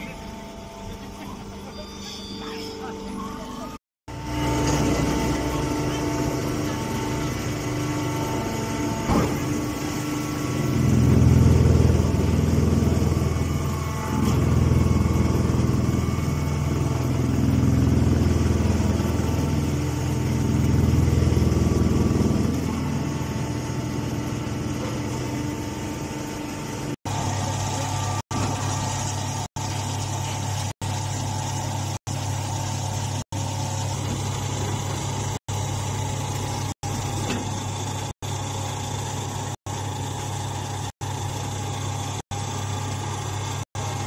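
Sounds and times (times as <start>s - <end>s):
baler machine hum: 0.0s - 44.0s.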